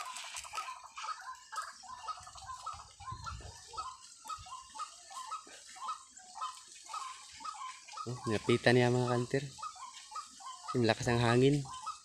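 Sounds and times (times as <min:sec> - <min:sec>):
bird calling: 0:00.0 - 0:12.0.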